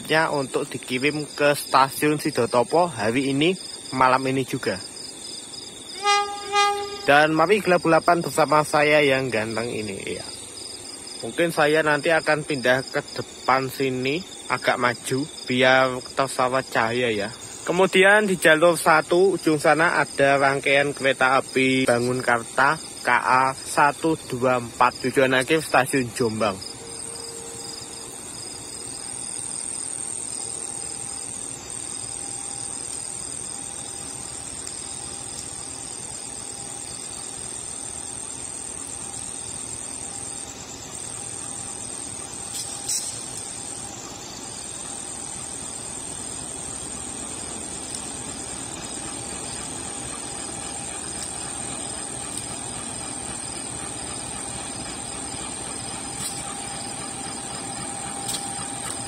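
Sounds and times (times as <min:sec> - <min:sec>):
crickets chirring: 0:00.0 - 0:59.0
diesel locomotive running: 0:00.0 - 0:59.0.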